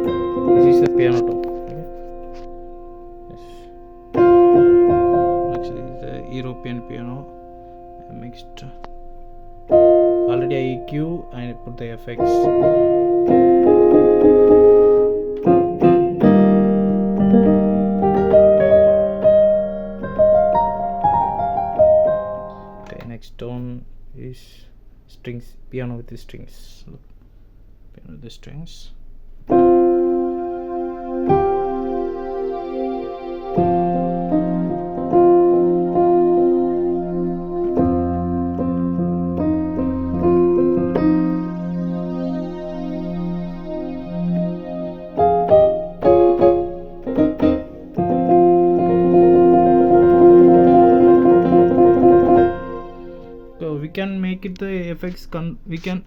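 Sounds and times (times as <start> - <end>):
electric piano chords: 0.0 - 23.2, 29.1 - 55.2.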